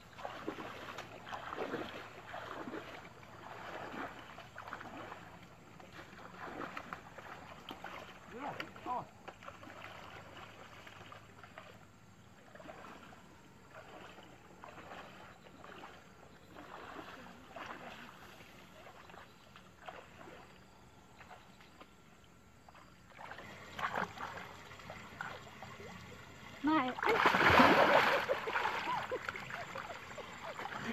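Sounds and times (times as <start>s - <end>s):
water splashing: 0.0s - 21.4s, 22.6s - 30.9s
water sloshing from wading: 0.0s - 30.9s.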